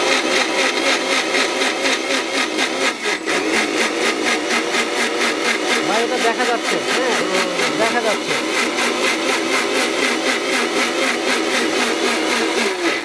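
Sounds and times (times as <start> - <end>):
mixer grinder motor whirring: 0.0 - 13.0.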